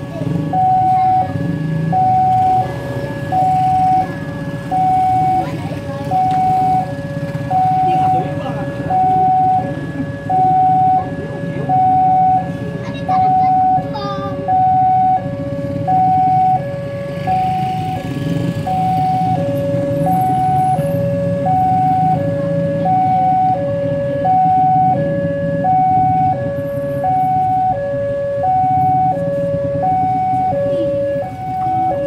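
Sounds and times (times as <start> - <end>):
level crossing two-tone alarm: 0.0 - 32.0.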